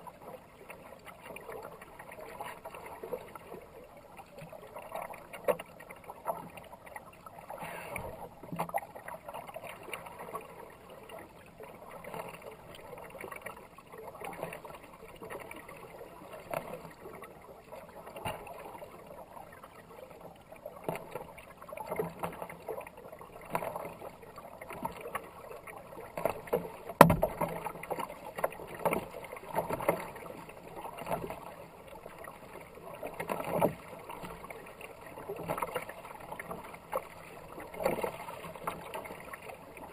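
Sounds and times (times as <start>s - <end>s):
paddle strokes splashing water: 0.0s - 39.9s.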